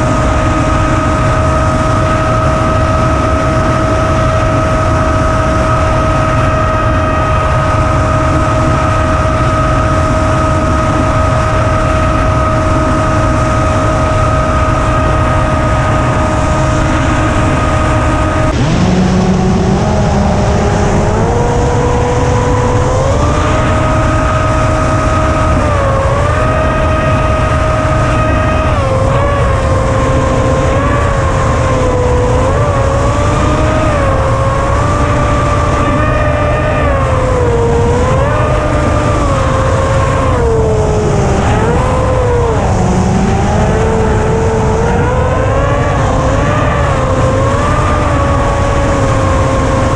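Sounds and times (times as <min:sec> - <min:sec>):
electric motor and propeller whining: 0:00.0 - 0:49.9
wind rush: 0:00.0 - 0:49.9.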